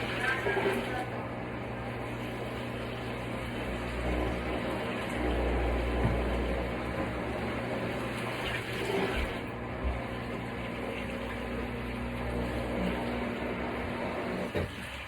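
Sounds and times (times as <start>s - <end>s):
churning water: 0.0s - 15.0s
washing machine motor humming: 0.0s - 15.0s.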